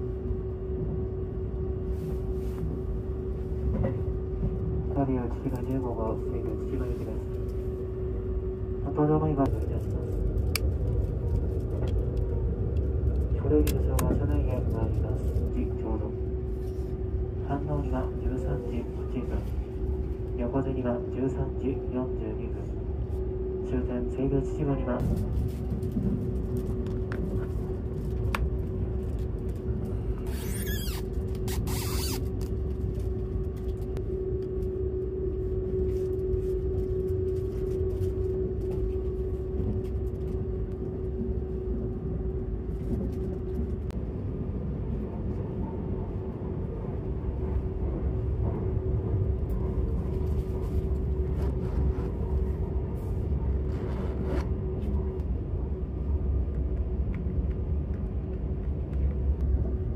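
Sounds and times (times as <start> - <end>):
train cabin rumble and hum: 0.0 - 59.9.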